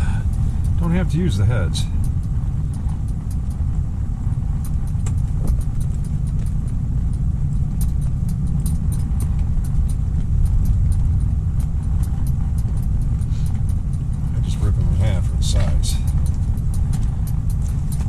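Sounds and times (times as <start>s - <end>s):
wind buffeting microphone: 0.0s - 18.0s
small sharp clicks and ticks: 0.2s - 18.0s.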